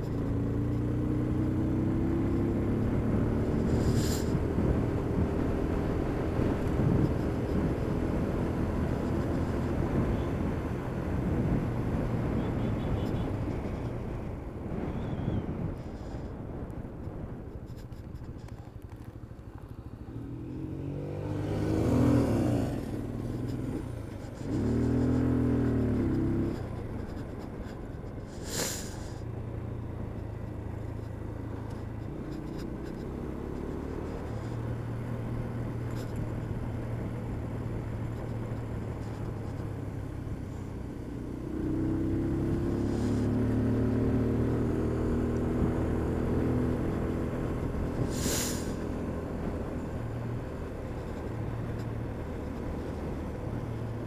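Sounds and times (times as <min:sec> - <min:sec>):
motorcycle engine revving: 0:00.0 - 0:14.1, 0:19.7 - 0:54.0.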